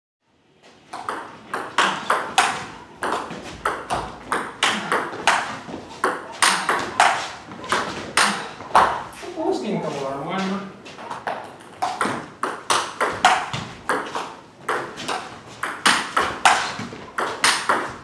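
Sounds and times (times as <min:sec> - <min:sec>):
table tennis ball hitting bats: 0:00.8 - 0:09.2, 0:11.0 - 0:18.0
ball bouncing on table: 0:01.0 - 0:09.0, 0:11.1 - 0:18.0.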